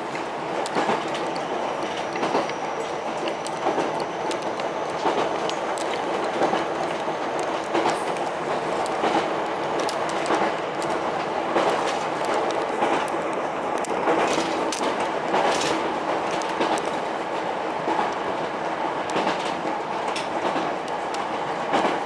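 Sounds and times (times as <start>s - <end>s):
rail-joint clicks: 0.0s - 22.0s
train rumble: 0.0s - 22.0s.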